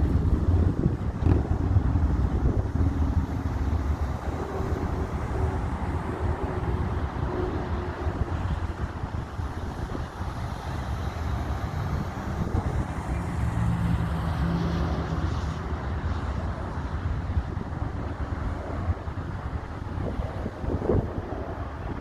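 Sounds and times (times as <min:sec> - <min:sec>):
low engine rumble: 0:00.0 - 0:22.0
wind buffeting microphone: 0:00.0 - 0:22.0.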